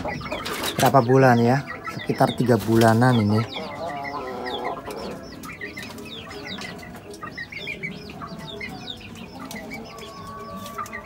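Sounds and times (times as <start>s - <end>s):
chicken clucking: 0.0s - 11.0s
chickens chirping: 0.0s - 11.0s.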